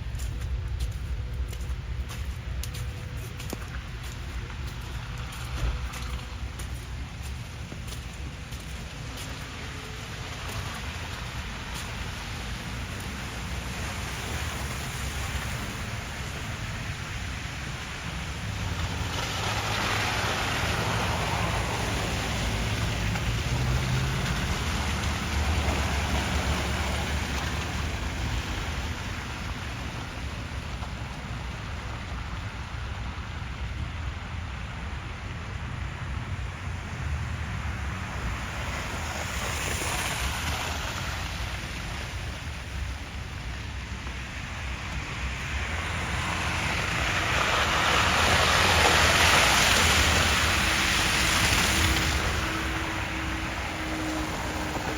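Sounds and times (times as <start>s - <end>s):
low traffic rumble: 0.0s - 54.9s
vehicle approaching: 0.0s - 54.9s
car tyres hissing on wet road: 4.7s - 54.9s.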